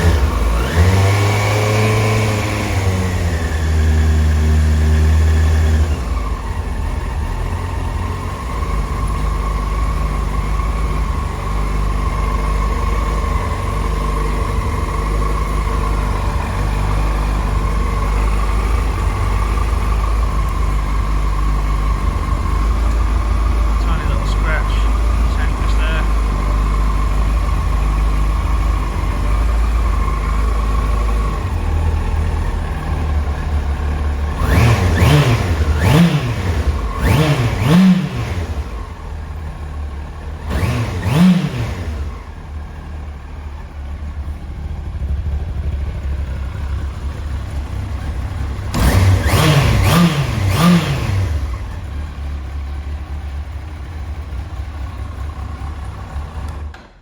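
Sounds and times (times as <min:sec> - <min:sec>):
motorcycle throttle revs: 0:00.0 - 0:56.9
motorcycle engine idling: 0:00.0 - 0:57.0.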